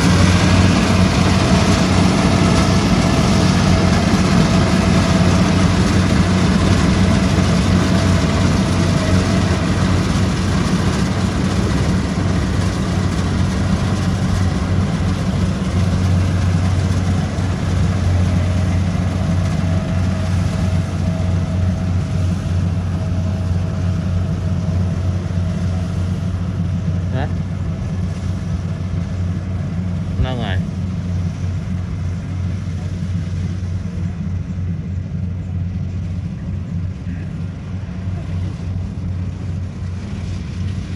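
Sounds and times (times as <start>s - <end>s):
combine harvester diesel engine: 0.0s - 40.9s.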